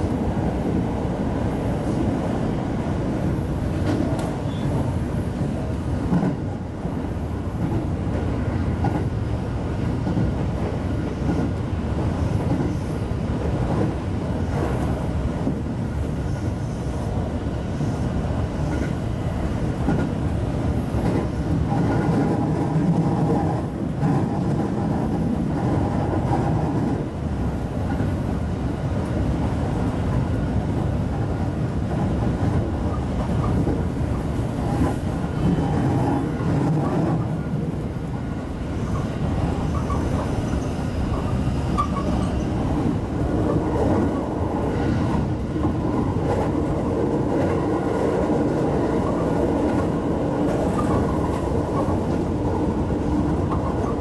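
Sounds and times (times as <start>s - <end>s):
wheels rumbling on rails: 0.0s - 54.0s.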